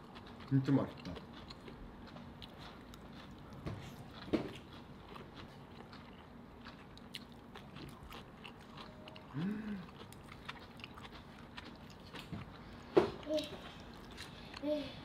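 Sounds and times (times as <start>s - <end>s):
people chewing: 0.0s - 15.0s.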